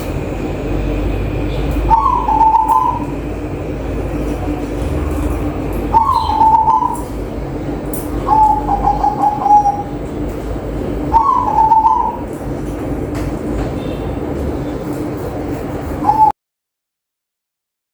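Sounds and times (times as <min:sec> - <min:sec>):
steady low hum: 0:00.0 - 0:16.3
dove cooing: 0:00.4 - 0:14.8, 0:15.8 - 0:16.3.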